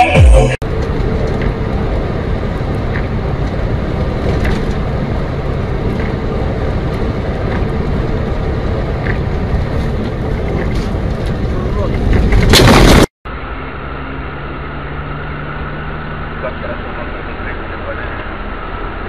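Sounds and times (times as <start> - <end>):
vehicle road noise rumble: 0.0 - 19.0.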